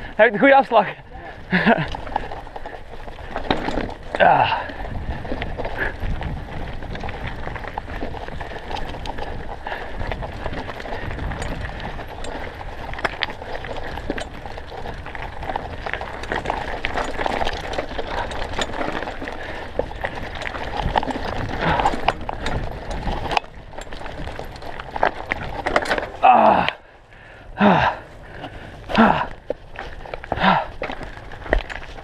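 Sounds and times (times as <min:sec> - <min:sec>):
bike rattling: 0:00.0 - 0:32.0
tyres crunching over stones: 0:00.0 - 0:32.0.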